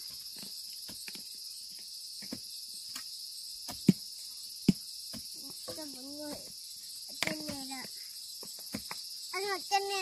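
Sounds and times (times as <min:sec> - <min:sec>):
insects chirping chorus: 0:00.0 - 0:10.0.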